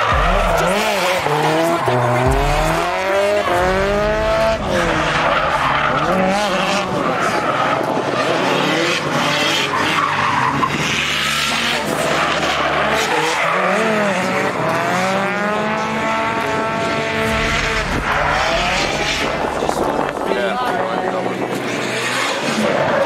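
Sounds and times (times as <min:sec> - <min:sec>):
car engine revving hard: 0:00.0 - 0:23.0.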